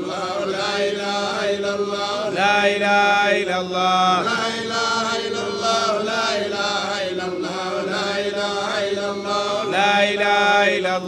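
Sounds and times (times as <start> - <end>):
men chanting together: 0.0 - 11.0.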